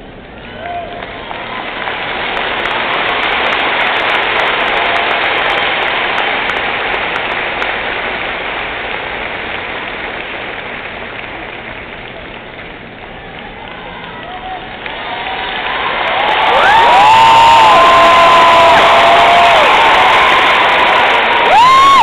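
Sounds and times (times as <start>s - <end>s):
crowd applauding: 0.4s - 22.0s.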